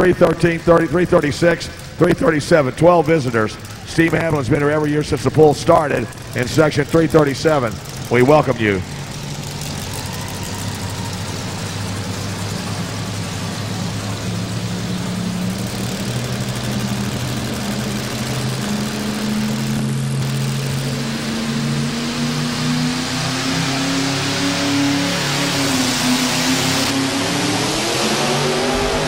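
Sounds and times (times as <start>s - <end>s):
truck engine running hard: 0.0s - 29.0s.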